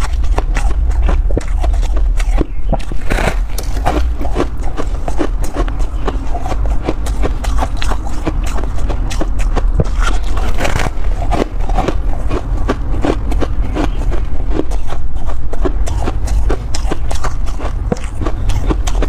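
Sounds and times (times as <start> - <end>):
chewing crunchy frost: 0.0 - 19.0.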